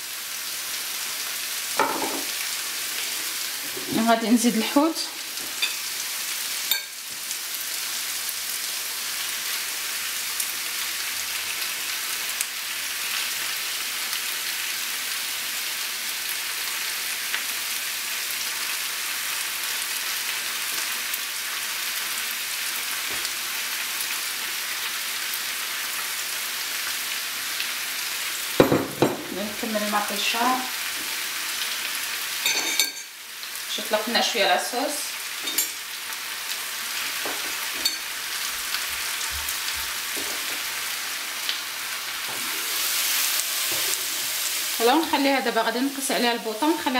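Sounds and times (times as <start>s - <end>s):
fish sizzling in a pan: 0.0s - 46.9s.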